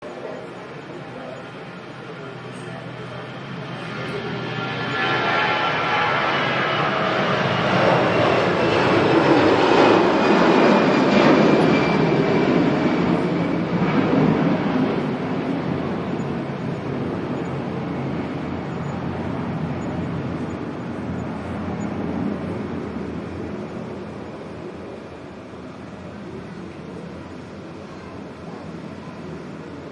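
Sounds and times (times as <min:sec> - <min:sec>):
jet engines roaring past: 0:00.0 - 0:29.9.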